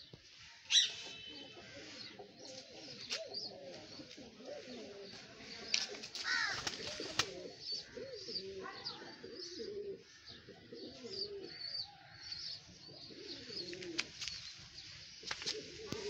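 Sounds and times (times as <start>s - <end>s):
birds chirping: 0.0s - 16.0s
pigeons cooing: 0.7s - 16.0s.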